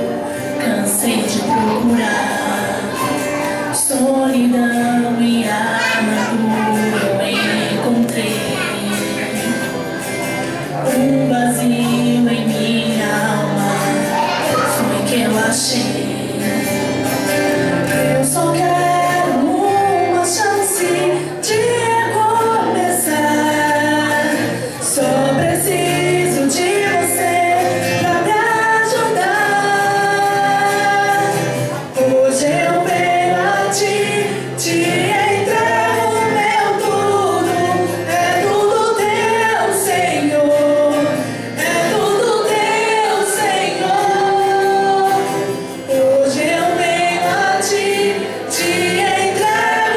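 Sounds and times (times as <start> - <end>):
person singing gospel song: 0.0 - 49.9.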